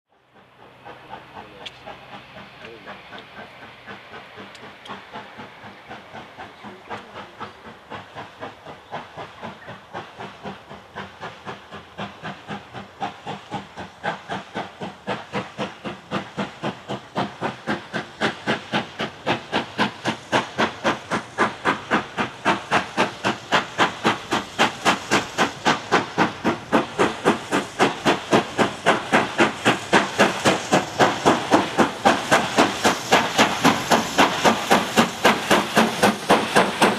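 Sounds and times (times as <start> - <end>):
steam locomotive exhaust chuffs: 0.1 - 36.9.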